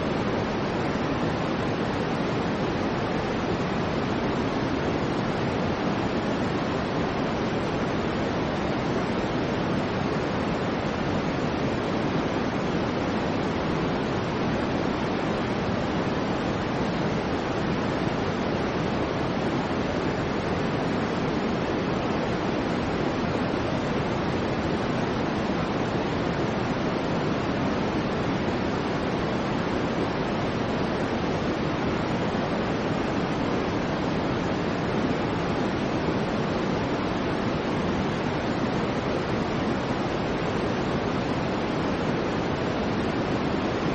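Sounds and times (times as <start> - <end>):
soft white noise: 0.0 - 43.9.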